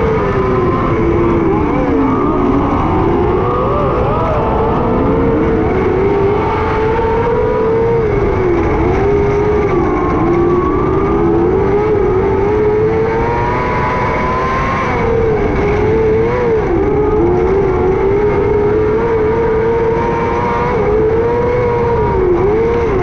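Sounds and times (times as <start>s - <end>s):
racing engine at high revs: 0.0s - 23.0s.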